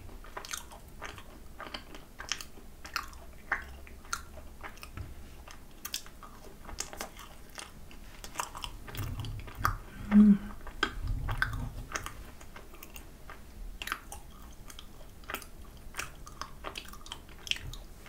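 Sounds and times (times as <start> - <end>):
chewing macaron: 0.0 - 18.0.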